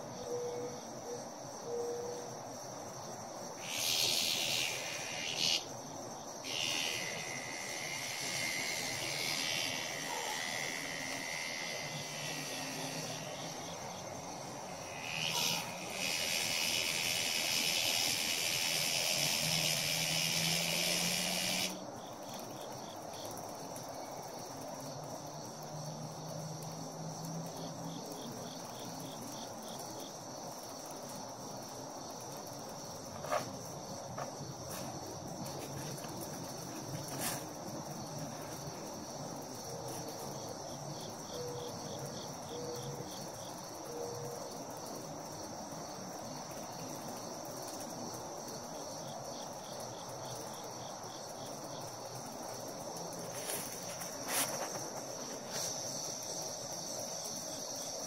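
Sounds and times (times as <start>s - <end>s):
cicada buzzing loudly: 0.0s - 58.0s
high insect chorus: 0.0s - 58.0s.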